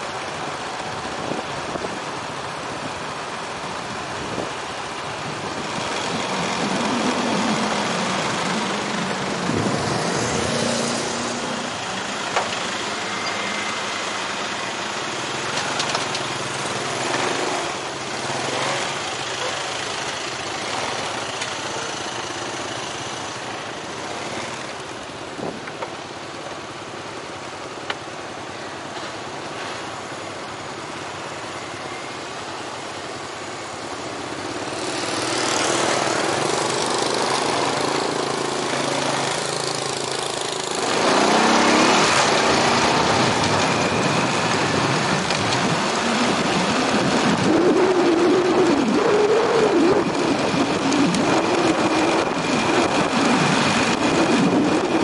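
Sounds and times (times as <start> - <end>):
wind and road noise: 0.0 - 55.0
motorbike engine: 2.8 - 27.9, 32.2 - 55.0.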